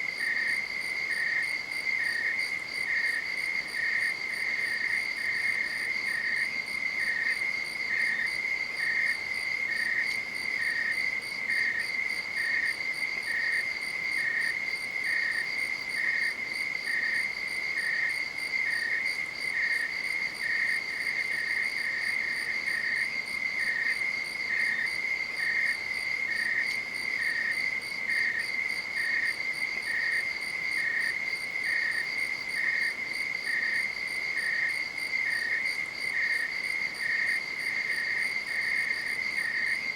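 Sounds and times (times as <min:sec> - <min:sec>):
insect chirping: 0:00.1 - 0:39.9.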